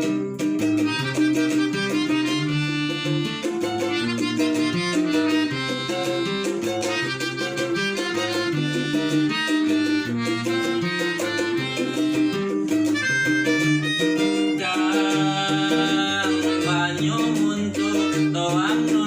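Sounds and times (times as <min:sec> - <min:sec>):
instrumental song with beat: 0:00.0 - 0:19.0.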